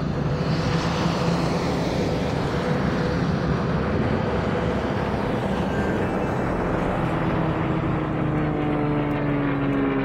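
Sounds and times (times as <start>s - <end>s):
propeller aircraft engine droning: 0.0s - 10.0s.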